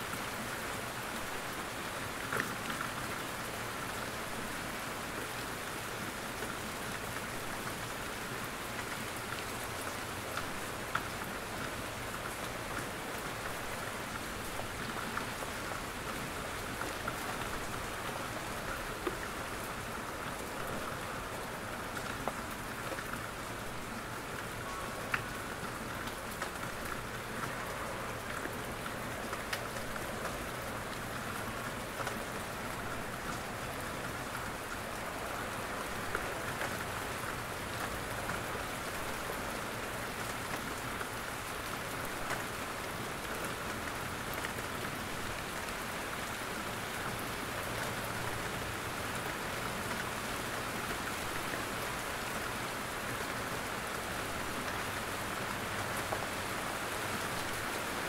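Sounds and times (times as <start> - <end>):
rain in a forest: 0.0 - 58.0.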